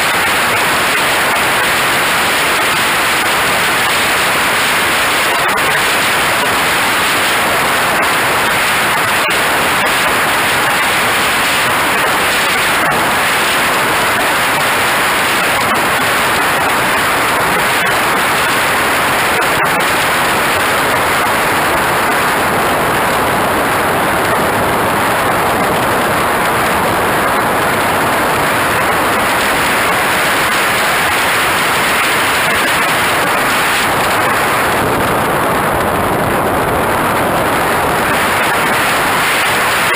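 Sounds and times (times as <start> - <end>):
jet engine: 0.0 - 39.9.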